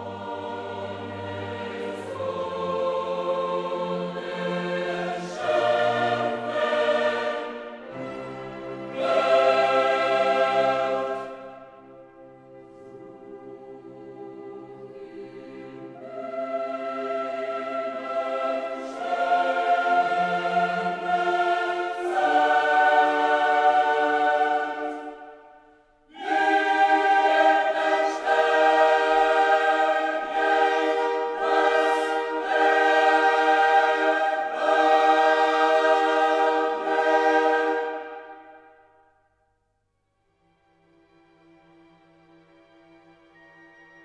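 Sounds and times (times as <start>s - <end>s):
choir holding sustained chords: 0.0s - 39.4s.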